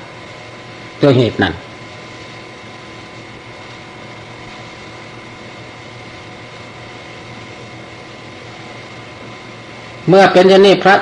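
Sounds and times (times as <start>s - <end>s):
faint constant tones: 0.0s - 11.0s
recording hiss and hum: 0.0s - 11.0s.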